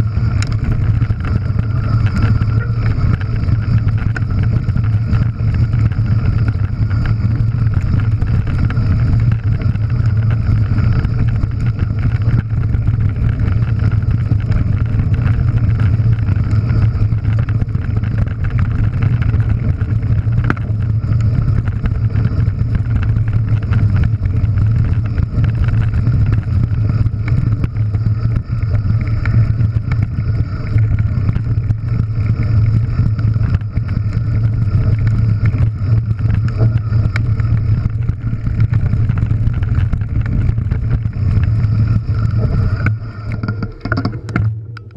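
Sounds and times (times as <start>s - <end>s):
bike clattering and rattling: 0.0s - 44.9s
wind rumble on microphone: 0.0s - 44.9s.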